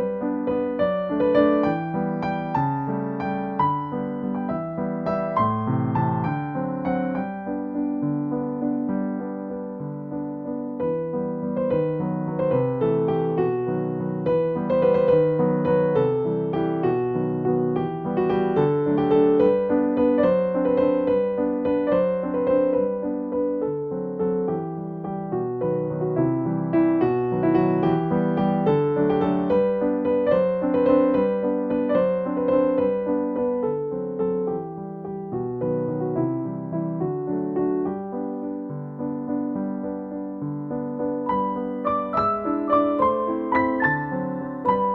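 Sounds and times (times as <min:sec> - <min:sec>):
gentle piano music: 0:00.0 - 0:44.9.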